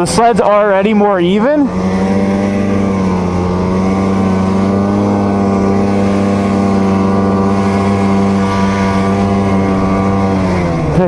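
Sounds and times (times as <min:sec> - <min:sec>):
snowmobile engine at high revs: 0:00.0 - 0:11.0.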